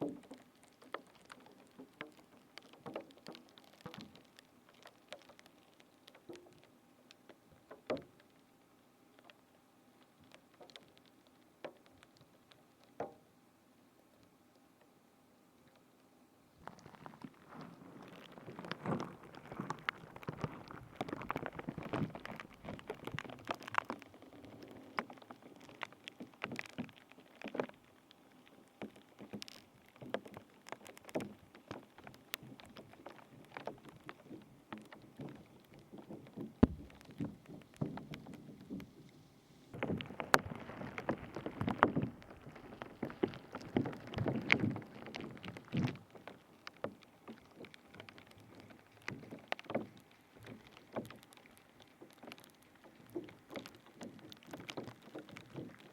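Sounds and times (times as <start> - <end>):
crackling and squishing handling sounds: 0.0 - 55.9.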